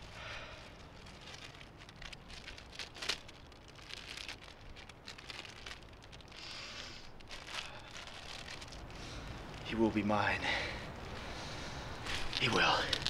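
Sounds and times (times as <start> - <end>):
plastic bag crinkling: 0.0 - 10.2, 12.0 - 13.0.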